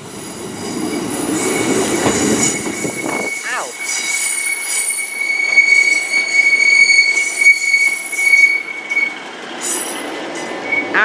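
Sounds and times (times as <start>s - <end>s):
train wheels squealing on rails: 0.0s - 11.0s.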